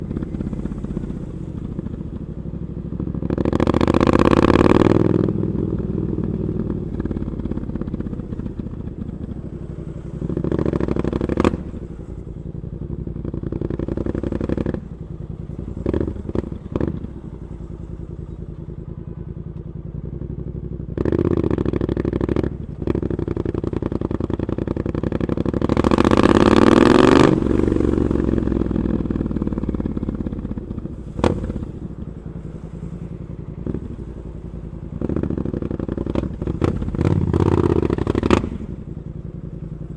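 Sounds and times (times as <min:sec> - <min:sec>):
motorcycle engine revving: 0:00.0 - 0:18.7, 0:19.9 - 0:39.9.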